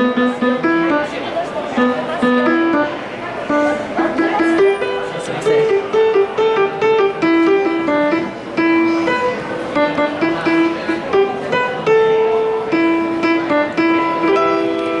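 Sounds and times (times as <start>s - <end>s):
piano melody over chords: 0.0s - 15.0s.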